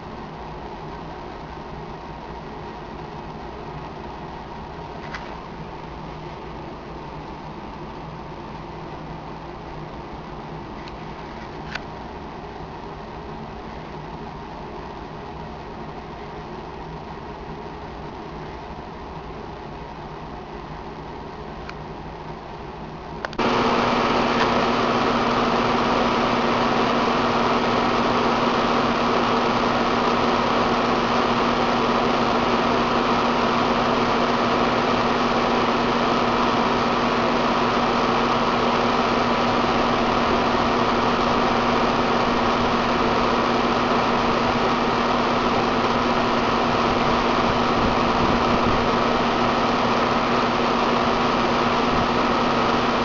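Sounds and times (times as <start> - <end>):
air conditioner running: 0.0 - 53.0.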